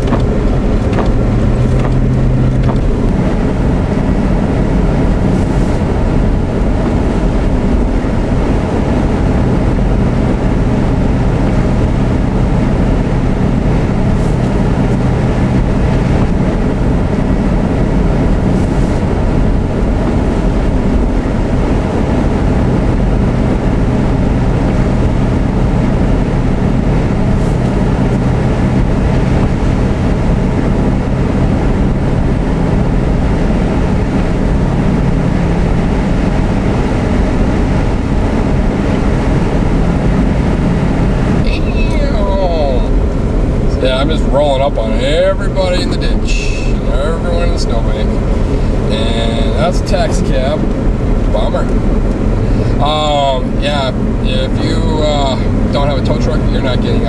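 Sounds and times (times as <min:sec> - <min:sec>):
car road and engine noise: 0:00.0 - 0:57.0
low hum: 0:00.0 - 0:57.0.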